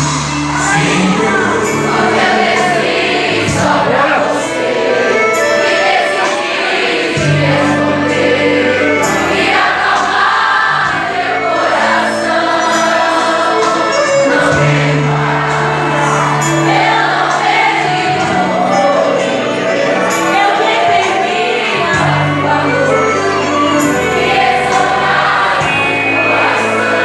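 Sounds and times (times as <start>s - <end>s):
group of voices singing: 0.0s - 27.0s.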